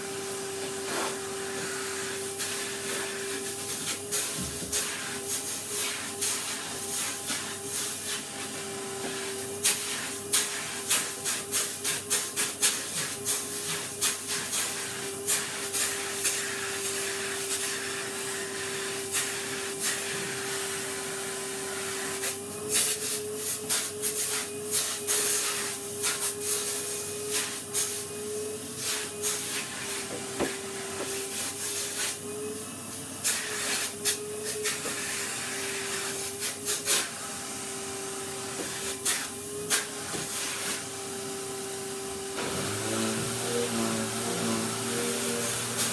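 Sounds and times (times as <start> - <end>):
vacuum cleaner whine: 0.0 - 45.9.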